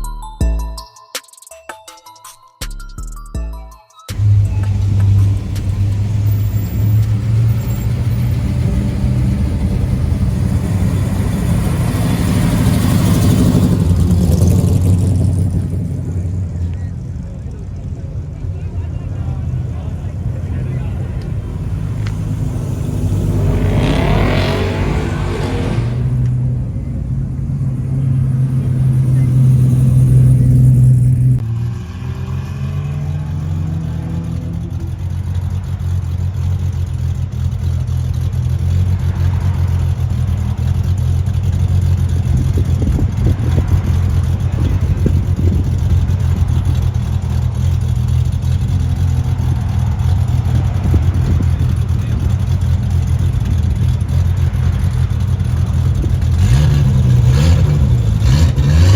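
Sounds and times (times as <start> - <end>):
car engine rumbling: 4.1 - 58.9.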